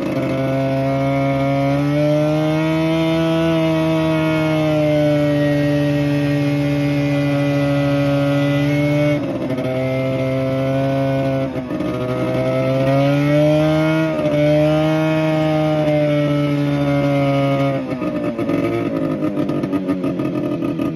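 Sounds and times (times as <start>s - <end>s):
snowmobile engine running: 0.0s - 20.9s.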